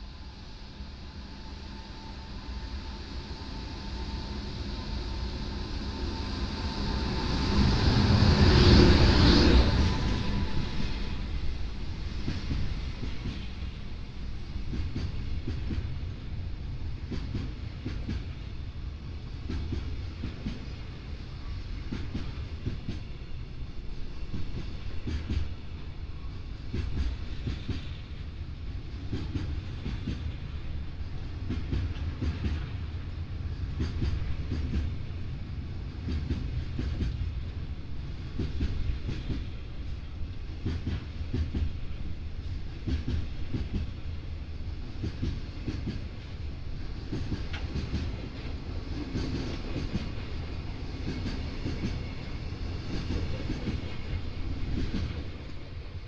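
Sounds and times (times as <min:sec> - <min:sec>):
electric locomotive whine: 0:00.0 - 0:56.0.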